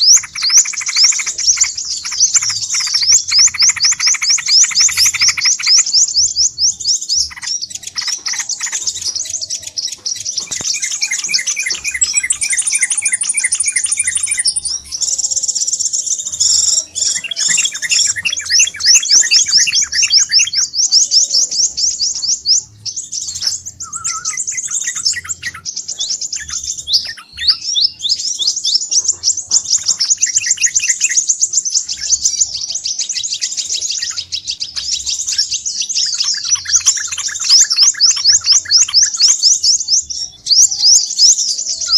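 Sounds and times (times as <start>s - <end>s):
bird trills: 0.0s - 41.9s
sunbirds chirping: 0.0s - 41.9s.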